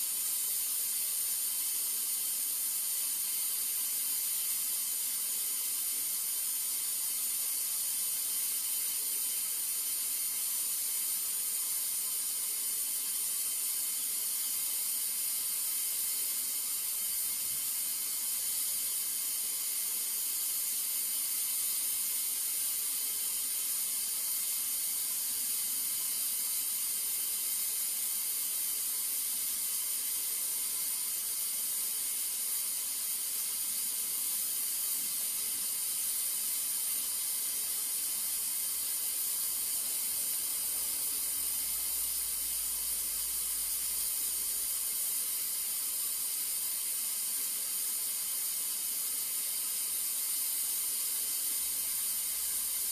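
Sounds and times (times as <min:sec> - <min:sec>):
welding arc hissing: 0:00.0 - 0:52.9.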